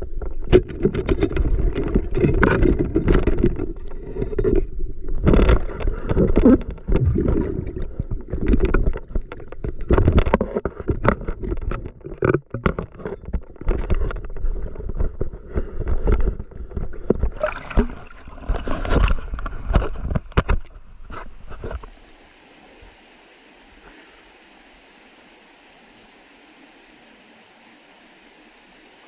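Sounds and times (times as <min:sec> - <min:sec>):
water splashing and sloshing: 0:00.2 - 0:27.9.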